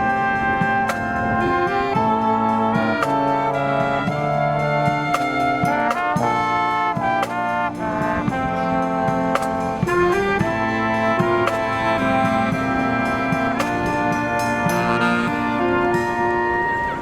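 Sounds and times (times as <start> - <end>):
brass marching band playing: 0.0 - 17.0
drum strikes: 0.0 - 17.0.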